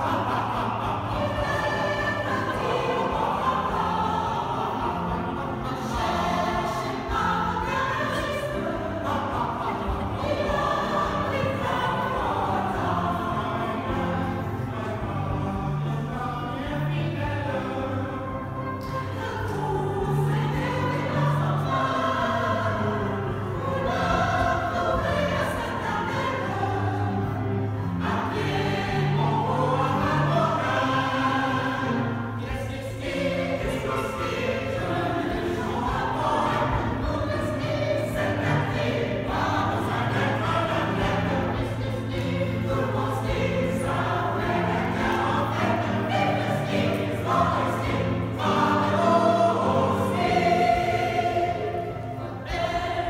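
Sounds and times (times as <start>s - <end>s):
mixed choir singing: 0.0s - 53.0s.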